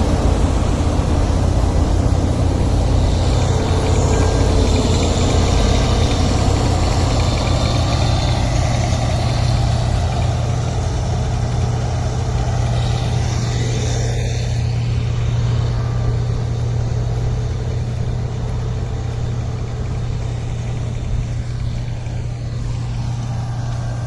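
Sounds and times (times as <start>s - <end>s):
harvesting machine engine running: 0.0s - 24.0s.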